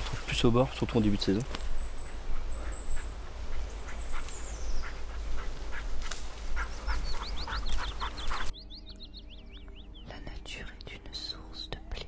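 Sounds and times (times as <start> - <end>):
footsteps rustling through undergrowth: 0.0 - 9.9
bird chirping: 0.7 - 12.0.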